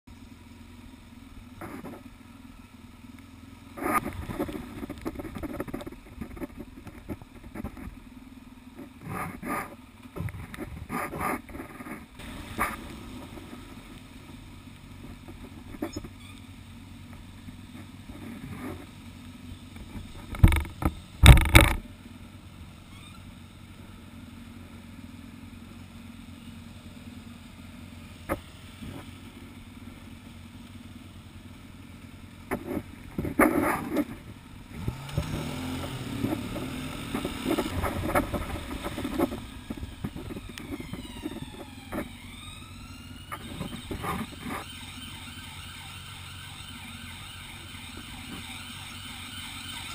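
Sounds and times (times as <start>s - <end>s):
motorcycle engines idling: 0.1s - 49.9s
engines revving: 0.4s - 49.9s.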